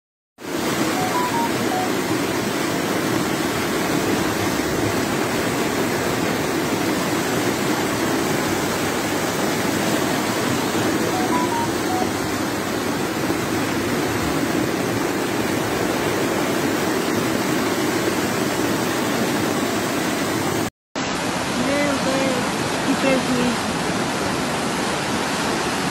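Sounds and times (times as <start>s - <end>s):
floodwater rushing: 0.4s - 25.9s
heavy rain: 0.4s - 25.9s.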